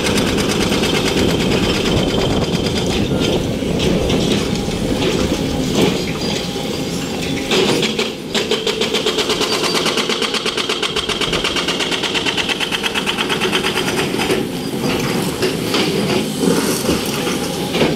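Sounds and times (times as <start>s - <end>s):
excavator machine noise: 0.0s - 17.9s.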